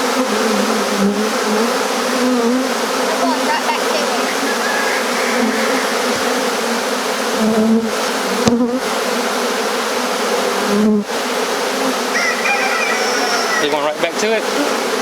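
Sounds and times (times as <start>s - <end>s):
bee swarm droning: 0.0s - 15.0s
single bees buzzing past: 0.0s - 15.0s.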